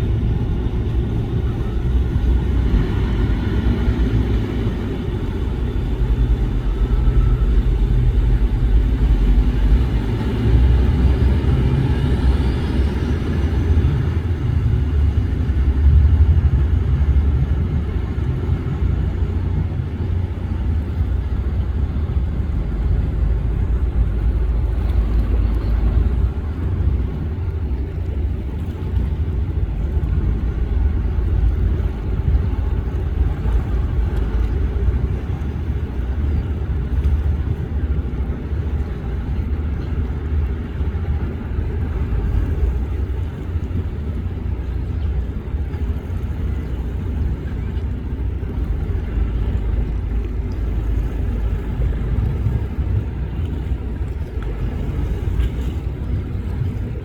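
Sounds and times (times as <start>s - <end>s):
boat engines rumbling: 0.0s - 57.0s
rushing water noise: 0.0s - 57.0s.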